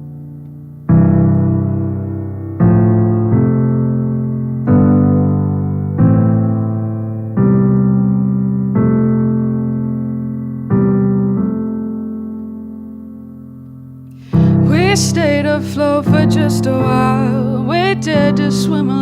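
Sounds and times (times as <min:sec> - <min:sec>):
piano chords ringing: 0:00.0 - 0:19.0.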